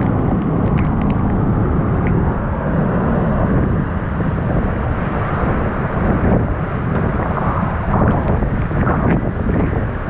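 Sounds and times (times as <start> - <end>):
driving rain: 0.0 - 10.0
strong wind blowing: 0.0 - 10.0
wind buffeting microphone: 0.0 - 10.0.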